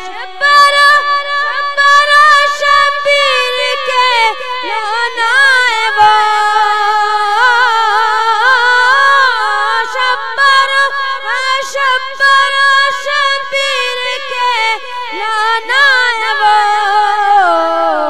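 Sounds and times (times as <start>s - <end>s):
boy singing into a microphone: 0.0s - 18.0s.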